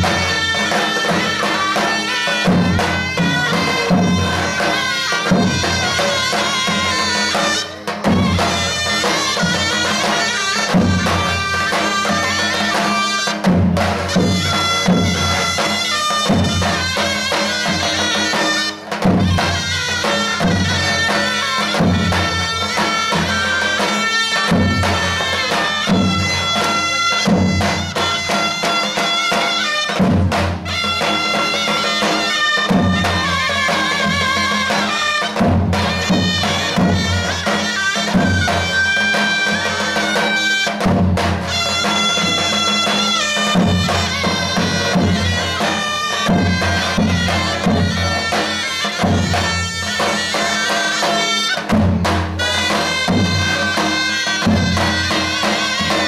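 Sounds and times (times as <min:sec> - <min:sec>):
reedy wind pipes melody: 0:00.0 - 0:56.0.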